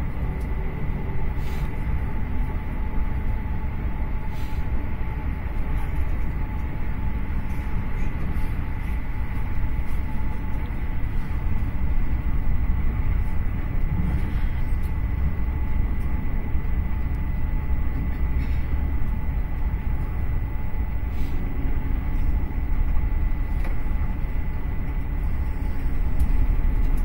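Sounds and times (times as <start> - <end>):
train rumbling along track: 0.0 - 27.0.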